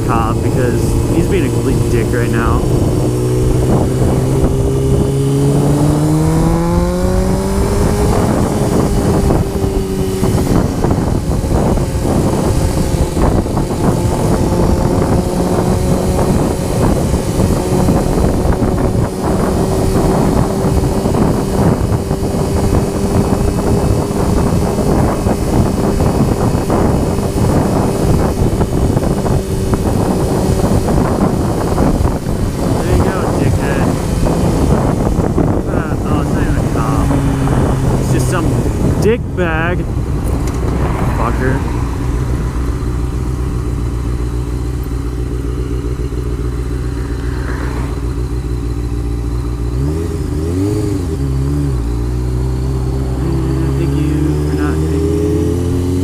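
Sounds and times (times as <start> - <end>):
motorcycle engine revving: 0.0 - 56.0
wind buffeting microphone: 0.0 - 56.0.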